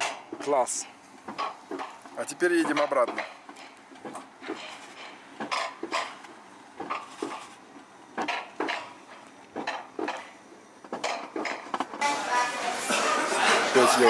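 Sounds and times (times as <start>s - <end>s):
sled wheels clacking on metal rails: 0.0s - 12.2s.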